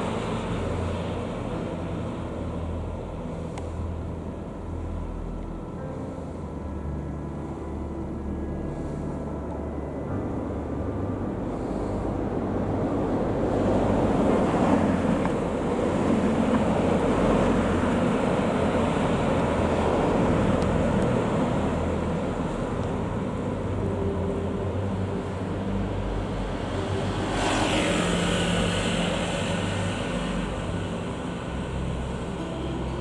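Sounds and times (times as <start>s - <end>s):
vehicle passing with hissing tyres: 0.0s - 5.3s, 7.4s - 33.0s
road traffic passing: 0.0s - 33.0s.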